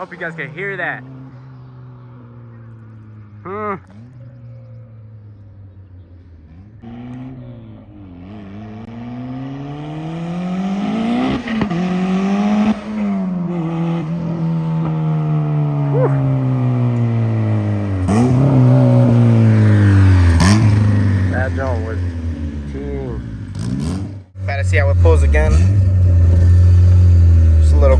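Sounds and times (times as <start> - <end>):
turbocharged car engine accelerating: 0.0 - 27.9.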